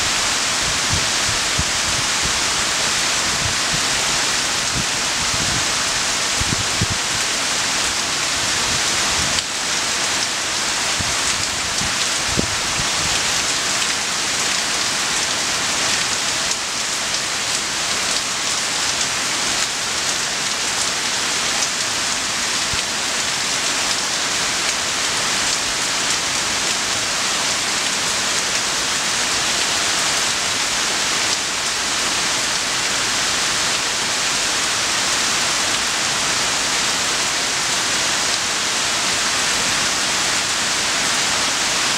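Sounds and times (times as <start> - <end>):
rain falling on trees and grass: 0.0 - 41.9.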